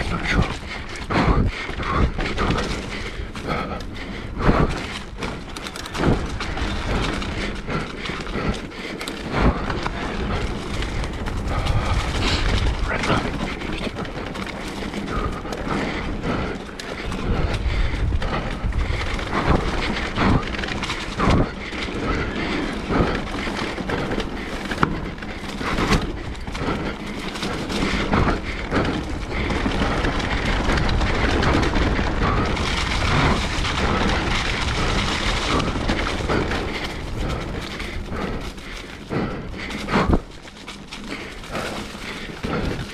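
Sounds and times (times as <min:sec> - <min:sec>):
bike rattling on dirt trail: 0:00.0 - 0:42.9
steady rushing noise: 0:00.0 - 0:42.9
wheels knocking on roots and rocks: 0:00.0 - 0:42.9.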